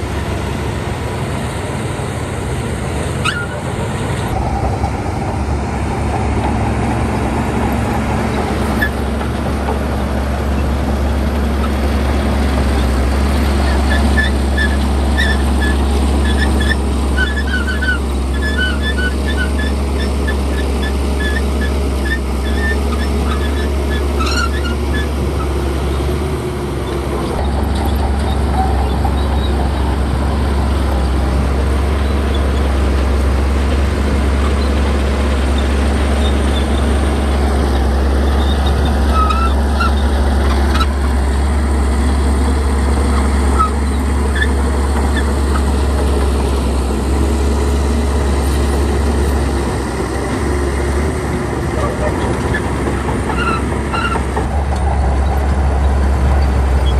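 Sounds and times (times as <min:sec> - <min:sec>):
diesel machinery engine drone: 0:00.0 - 0:56.9.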